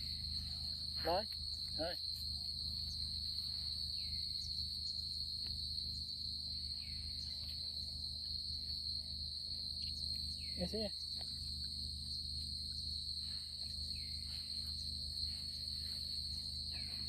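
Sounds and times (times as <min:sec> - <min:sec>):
night insects chirping: 0:00.0 - 0:17.0.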